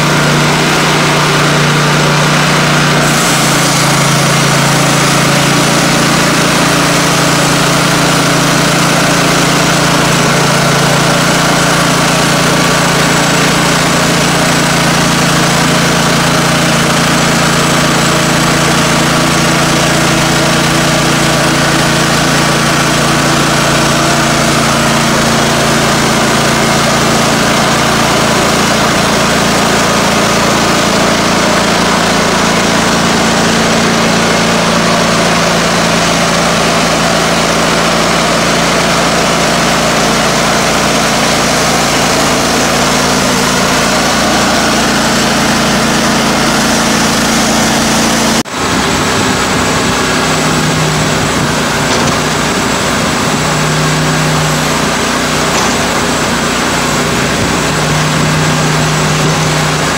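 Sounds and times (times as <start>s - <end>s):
band sawmill sawing log: 0.0s - 59.9s.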